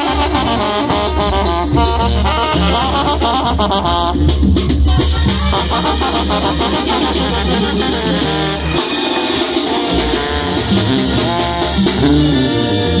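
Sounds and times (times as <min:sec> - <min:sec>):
deep bass line: 0:00.0 - 0:08.8, 0:09.8 - 0:13.0
brass band playing: 0:00.0 - 0:13.0.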